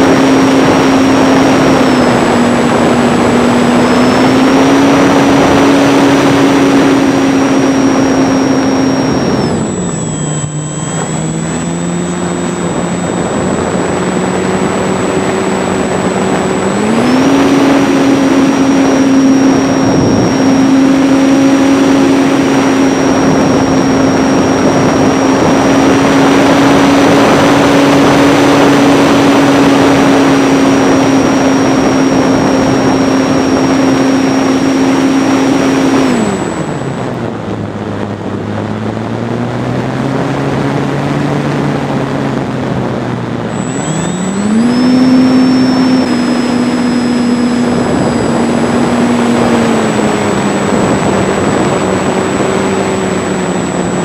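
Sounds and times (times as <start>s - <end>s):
model airplane motor whining: 0.0s - 54.0s.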